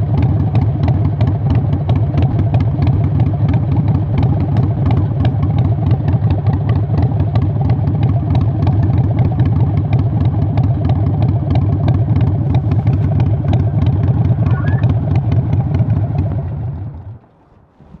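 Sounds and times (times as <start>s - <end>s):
motorcycle engine idling: 0.0s - 17.2s.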